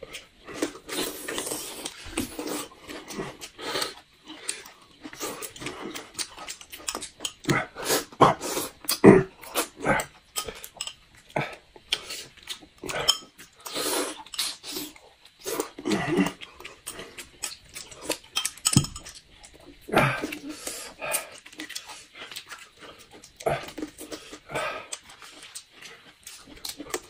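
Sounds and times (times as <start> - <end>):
chewing: 0.0 - 27.0.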